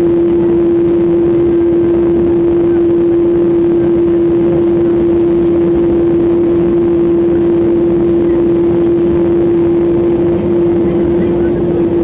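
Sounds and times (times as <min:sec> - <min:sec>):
airliner hum: 0:00.0 - 0:12.0
low rumble: 0:00.0 - 0:12.0.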